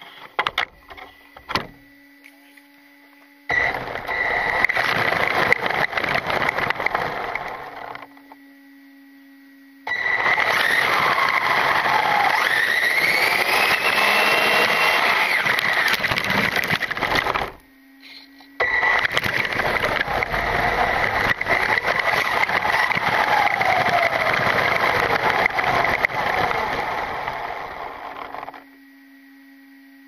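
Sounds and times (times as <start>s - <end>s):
electric motor whine: 0.0s - 30.0s
faint steady hum: 0.0s - 30.0s.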